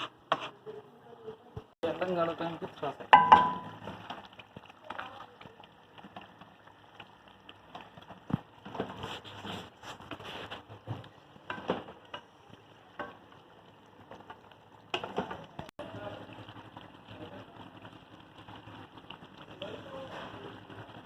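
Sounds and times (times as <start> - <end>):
gravy sizzling in a pan: 1.8 - 21.0.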